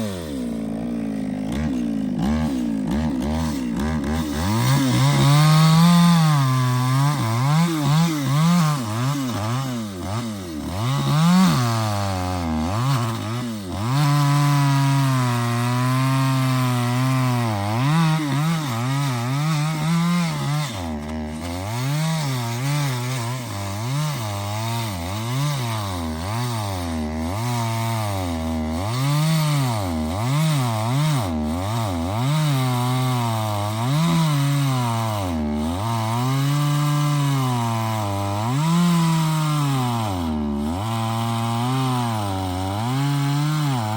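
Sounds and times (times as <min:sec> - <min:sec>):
chainsaw cutting tree trunk: 0:00.0 - 0:43.9.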